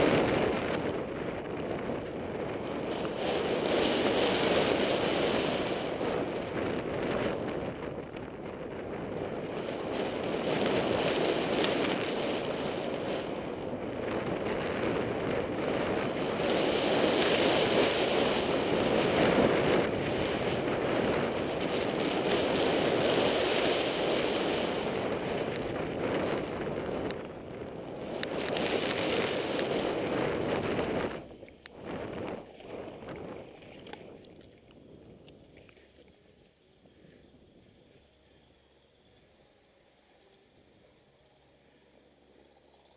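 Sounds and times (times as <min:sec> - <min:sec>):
wind rushing over microphone: 0:00.0 - 0:38.5.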